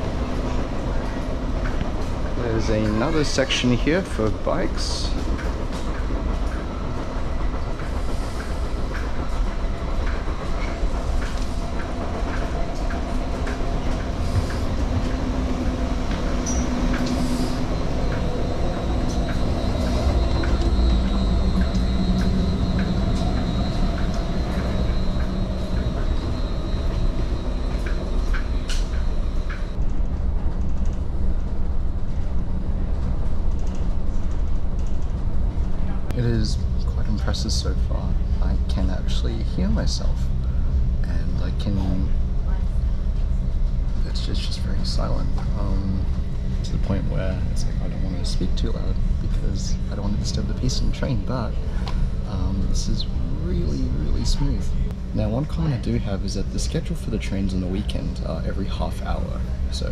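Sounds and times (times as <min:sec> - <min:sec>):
wheels rumbling on track: 0:00.0 - 0:59.9.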